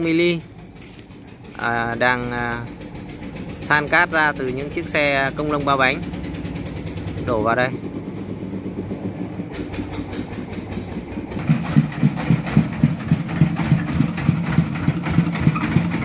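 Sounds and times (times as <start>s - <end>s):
diesel engine chugging: 0.0s - 16.0s
low engine hum: 0.0s - 16.0s.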